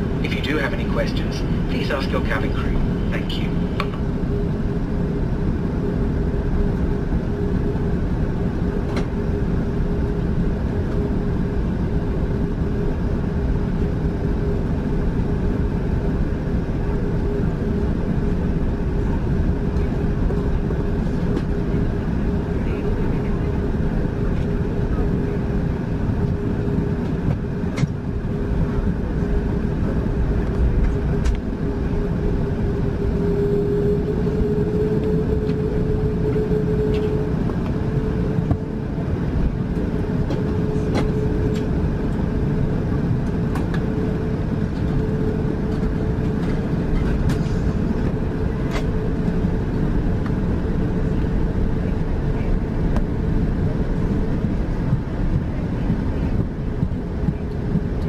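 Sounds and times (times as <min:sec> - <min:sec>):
jet engines rumbling and whining: 0:00.0 - 0:58.0.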